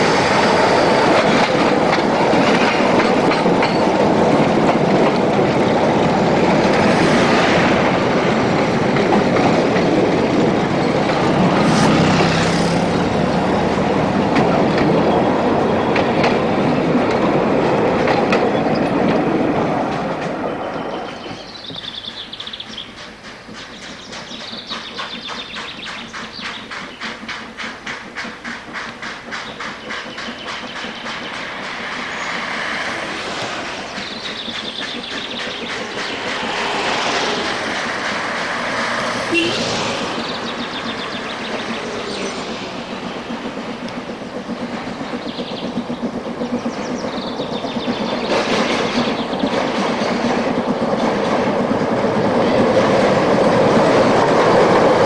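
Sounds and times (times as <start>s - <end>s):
steam locomotive exhaust chuffs: 0.0s - 55.0s
steam train rumble and clatter: 0.0s - 55.0s.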